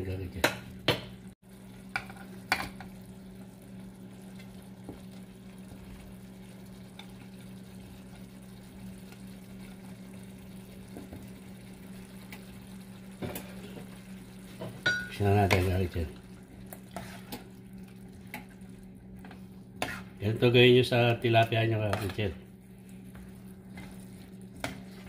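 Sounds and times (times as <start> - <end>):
constant hum: 0.0 - 25.0
sauce bubbling in a pan: 1.4 - 25.0.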